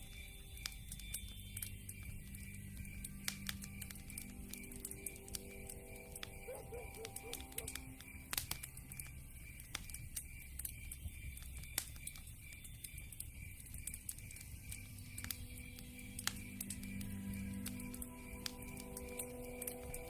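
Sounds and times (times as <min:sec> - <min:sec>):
low rumble of flames: 0:00.0 - 0:20.0
soft music: 0:00.0 - 0:20.0
wood fire crackling: 0:00.0 - 0:20.0.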